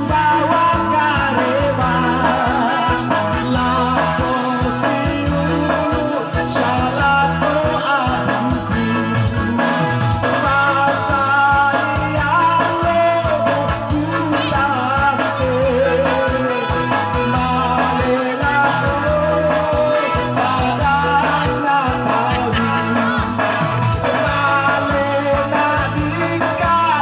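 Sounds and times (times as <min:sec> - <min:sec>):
electronic keyboard with beat: 0:00.0 - 0:27.0
man singing through loudspeakers: 0:00.0 - 0:27.0.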